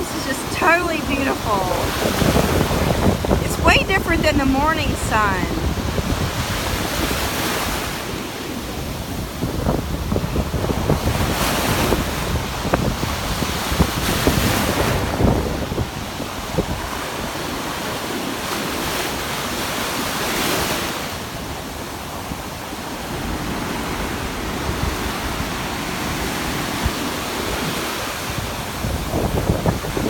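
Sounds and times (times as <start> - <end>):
ocean surf breaking on beach: 0.0 - 30.0.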